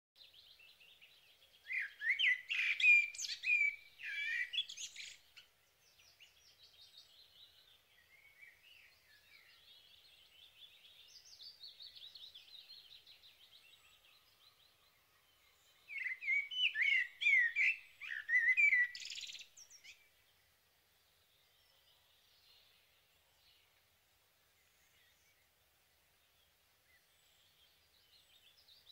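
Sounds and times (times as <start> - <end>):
faint bird twittering: 0.2 - 28.9
songbirds singing: 0.2 - 28.9.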